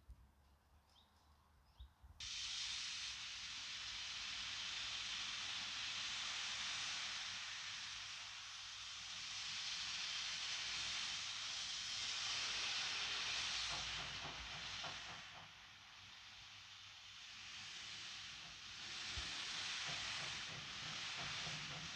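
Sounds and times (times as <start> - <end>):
steam hissing: 2.2 - 21.9.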